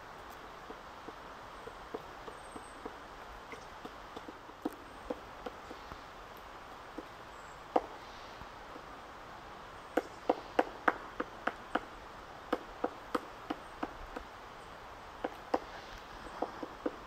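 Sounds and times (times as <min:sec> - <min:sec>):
woodpecker pecking wood: 0:00.2 - 0:08.0, 0:09.9 - 0:14.4, 0:15.2 - 0:17.0.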